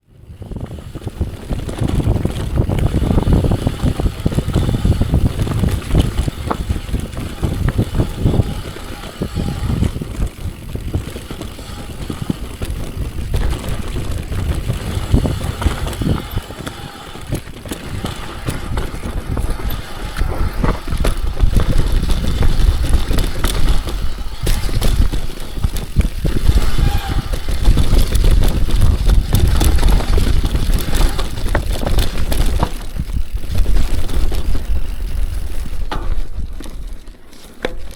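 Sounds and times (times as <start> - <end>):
bike rattling and knocking: 0.0 - 37.9
bike tyres on dirt: 0.0 - 37.9.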